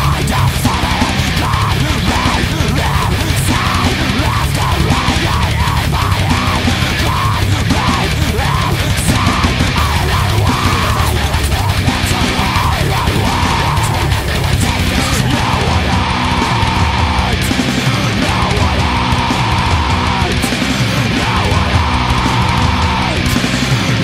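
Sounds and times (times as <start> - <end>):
heavy metal music: 0.0 - 24.0.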